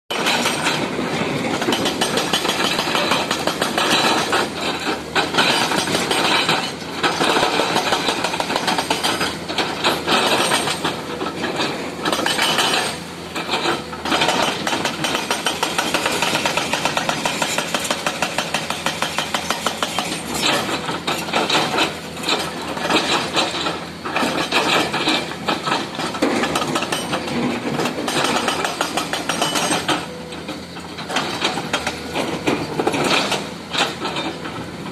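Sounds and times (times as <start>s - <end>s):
hydraulic breaker hammering: 0.1s - 30.2s
excavator engine running: 0.1s - 34.9s.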